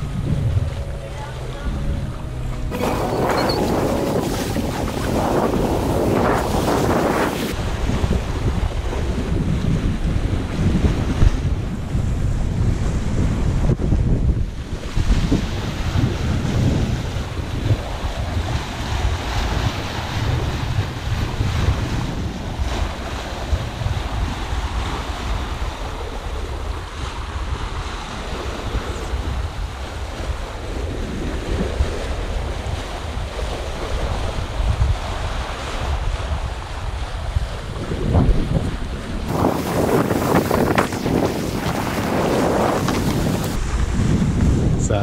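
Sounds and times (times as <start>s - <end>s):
water splashing along hull: 0.0s - 44.6s
wind buffeting microphone: 0.0s - 45.0s.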